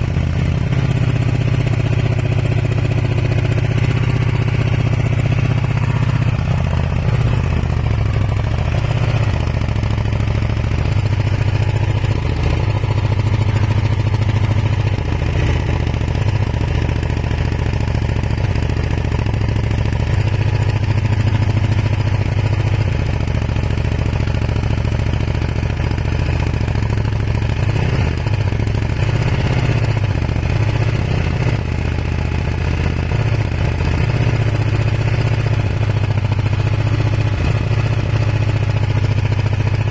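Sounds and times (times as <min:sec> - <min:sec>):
motorcycle engine running unevenly: 0:00.0 - 0:39.9.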